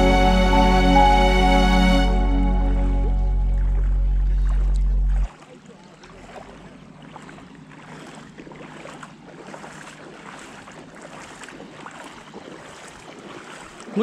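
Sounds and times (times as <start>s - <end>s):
floodwater sloshing and splashing: 2.1s - 14.0s.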